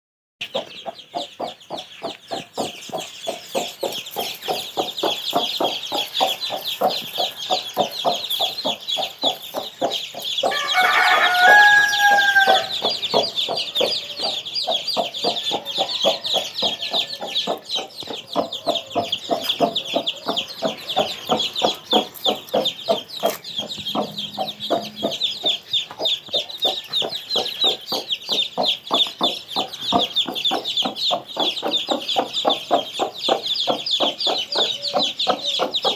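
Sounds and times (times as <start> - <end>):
chicks peeping: 0.4 - 35.9
hen clucking: 0.4 - 35.9.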